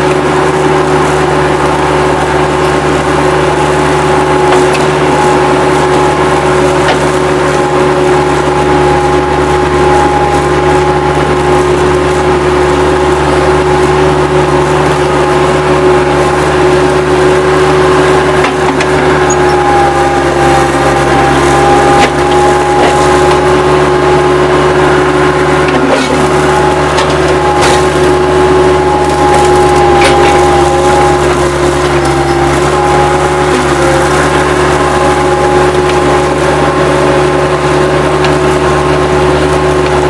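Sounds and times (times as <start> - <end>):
constant whine: 0.0 - 40.0
diesel engine running: 0.0 - 40.0.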